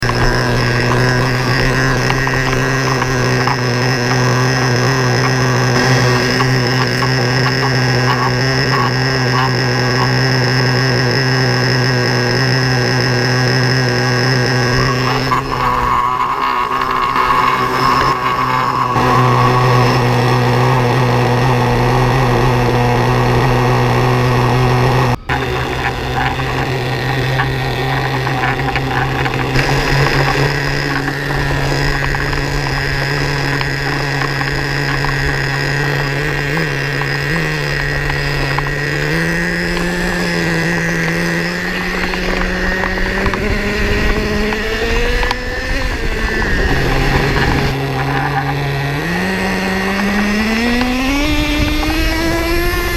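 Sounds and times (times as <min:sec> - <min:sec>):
model car nitro engine running: 0:00.0 - 0:52.9.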